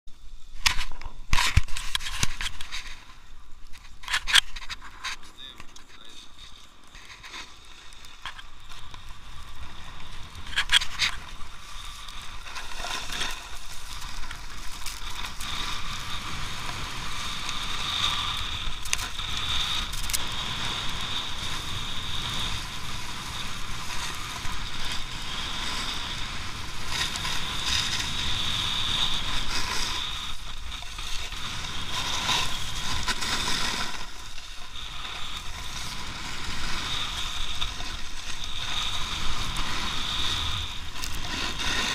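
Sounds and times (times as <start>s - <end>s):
skis scraping over snow: 0.1s - 41.9s.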